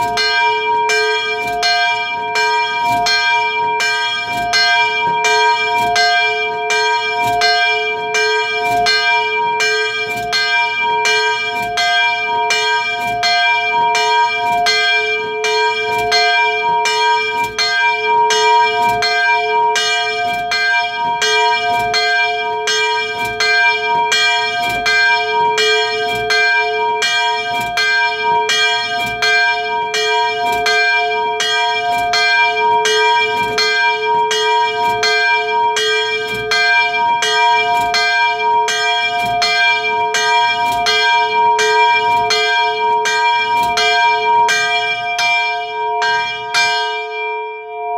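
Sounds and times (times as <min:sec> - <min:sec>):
church bell ringing: 0:00.0 - 0:47.9.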